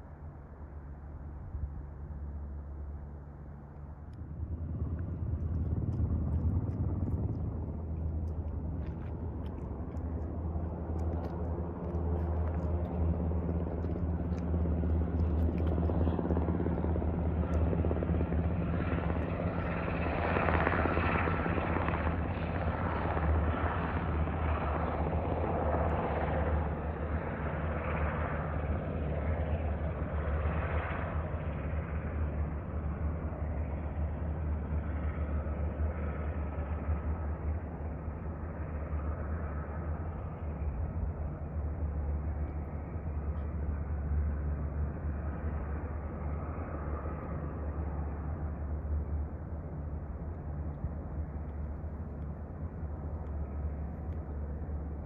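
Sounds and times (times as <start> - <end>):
helicopter flying: 0.0 - 55.0.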